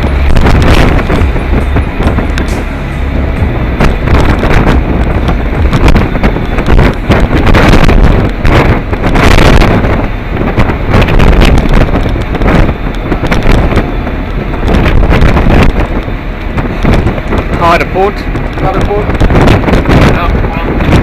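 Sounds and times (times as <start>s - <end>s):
deep rumble: 0.0s - 21.0s
gale wind buffeting microphone: 0.0s - 21.0s.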